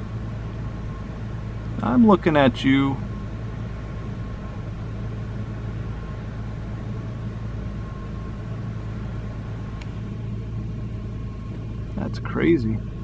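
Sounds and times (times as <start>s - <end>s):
car engine hum: 0.0s - 13.0s
faint steady tone: 0.0s - 13.0s.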